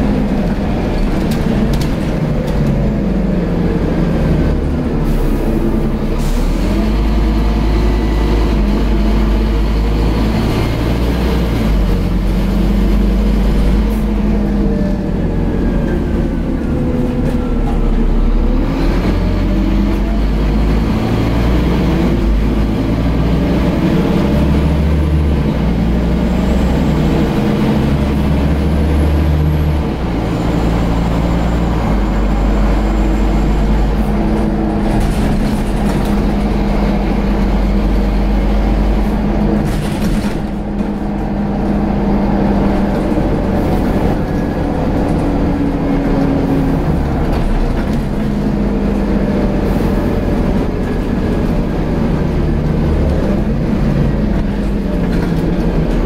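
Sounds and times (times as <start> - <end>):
bus engine running: 0.0 - 56.0.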